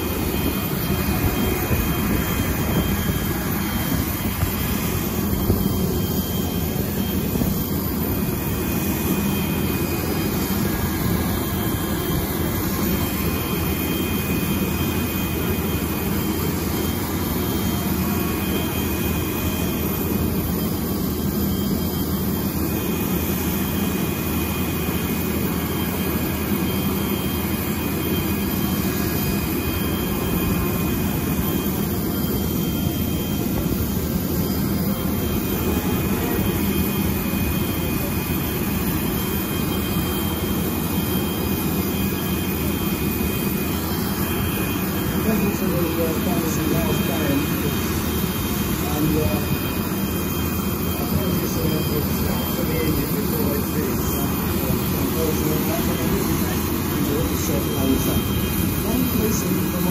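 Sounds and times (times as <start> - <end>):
high jet whine: 0.0 - 59.9
jet engines roaring: 0.0 - 59.9.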